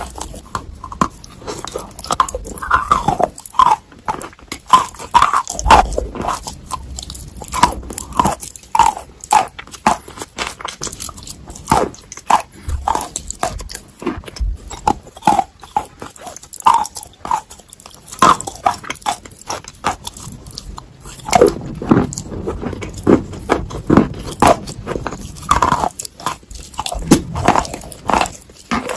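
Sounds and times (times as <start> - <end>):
crunching dry clay: 0.0 - 28.9.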